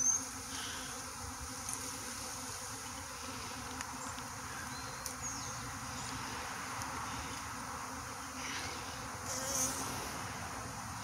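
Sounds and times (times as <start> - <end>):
honeybee swarm buzzing: 0.0 - 11.0.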